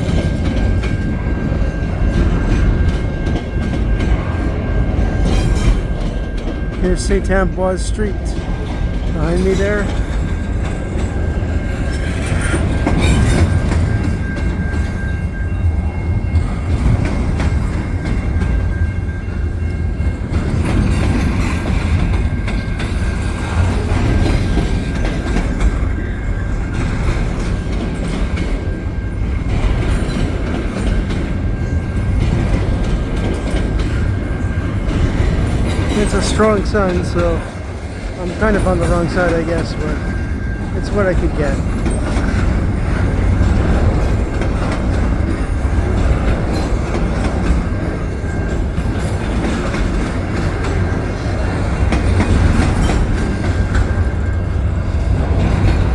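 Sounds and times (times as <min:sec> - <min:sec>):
train cars rolling past: 0:00.0 - 0:55.9
wheels clacking over rail joints: 0:00.0 - 0:55.9.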